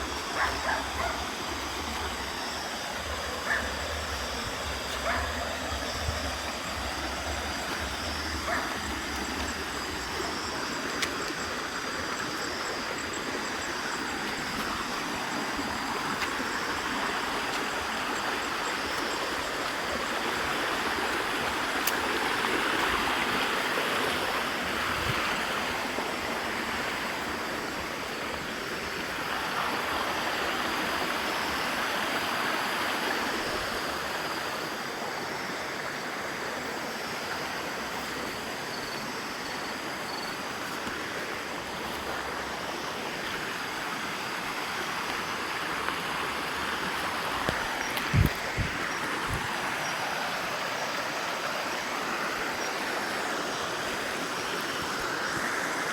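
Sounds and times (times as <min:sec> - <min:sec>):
flowing water rushing: 0:00.0 - 0:55.9.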